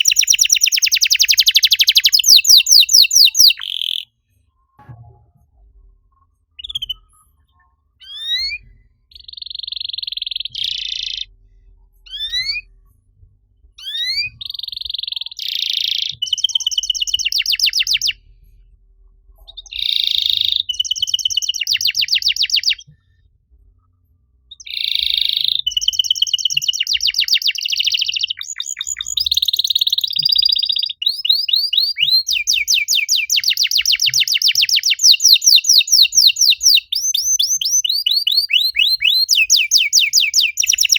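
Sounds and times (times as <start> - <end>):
canary singing trills: 0.0 - 4.1, 6.5 - 7.2, 8.0 - 11.4, 12.1 - 12.7, 13.8 - 18.2, 19.4 - 22.9, 24.5 - 40.9.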